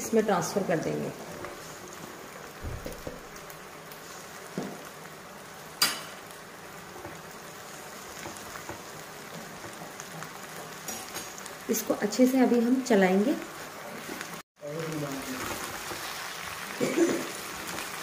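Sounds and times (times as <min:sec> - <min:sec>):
okra sizzling in hot oil: 0:00.0 - 0:18.0.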